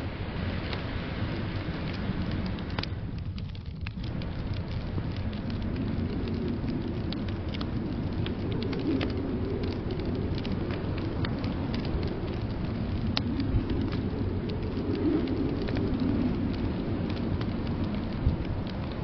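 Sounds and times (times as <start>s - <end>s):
fire popping: 0.0s - 19.0s
low rumble of storm: 0.0s - 19.0s
wood fire crackling: 0.0s - 19.0s.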